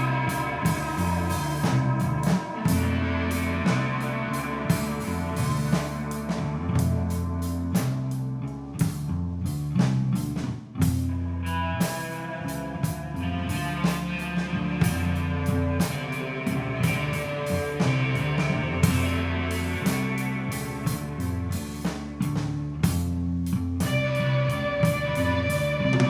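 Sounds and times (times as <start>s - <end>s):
electric guitar: 0.0s - 26.0s
sustained bass guitar notes: 0.0s - 26.0s.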